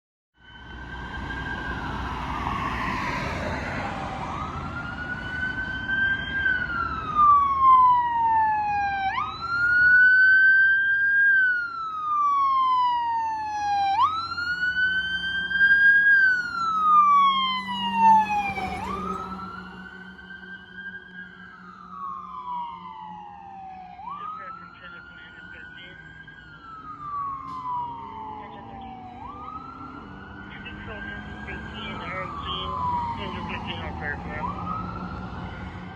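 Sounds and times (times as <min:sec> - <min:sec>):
engine and road rumble: 0:00.4 - 0:35.9
fire engine siren wailing: 0:00.4 - 0:35.9.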